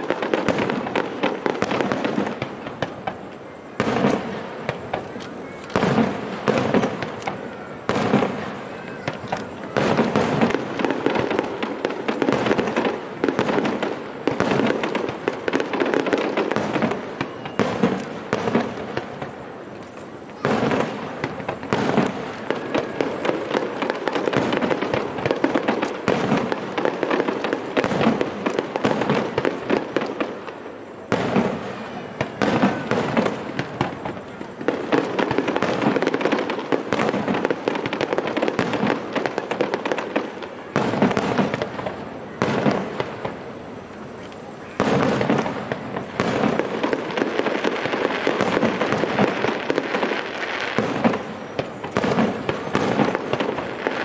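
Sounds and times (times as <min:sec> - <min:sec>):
firework shells bursting: 0:00.0 - 0:54.0.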